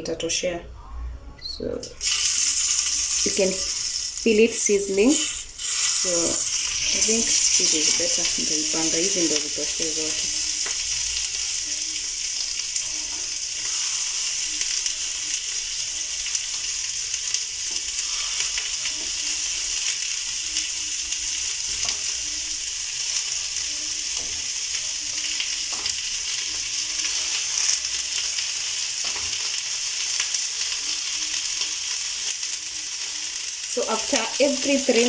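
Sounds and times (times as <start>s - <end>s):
meat sizzling in oil: 2.0s - 35.0s.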